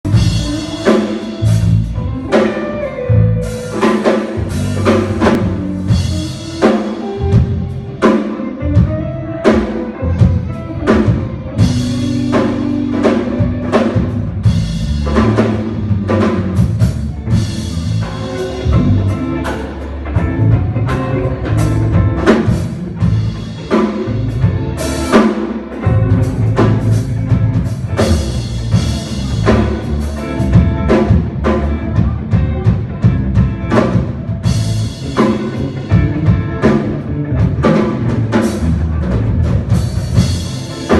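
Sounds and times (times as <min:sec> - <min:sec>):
band music: 0:00.0 - 0:40.9
drum kit beat: 0:00.0 - 0:40.9.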